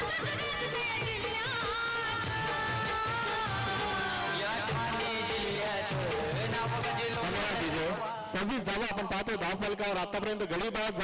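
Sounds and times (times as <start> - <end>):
song with singing voice: 0.0 - 11.0.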